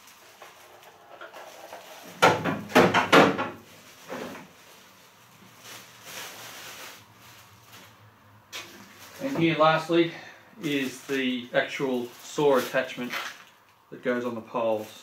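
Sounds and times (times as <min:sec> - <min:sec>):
plastic packaging crinkling: 0:00.0 - 0:02.3, 0:03.6 - 0:10.0, 0:10.6 - 0:15.0.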